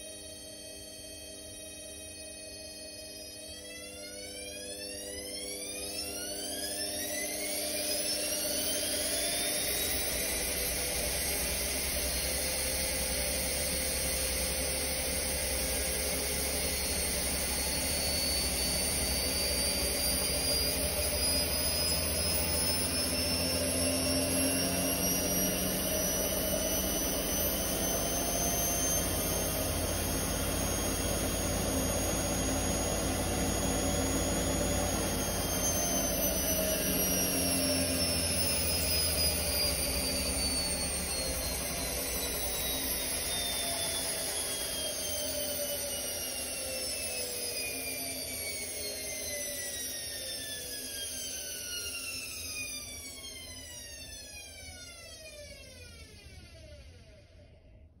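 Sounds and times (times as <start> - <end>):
washing machine motor whine: 0.0 - 58.0.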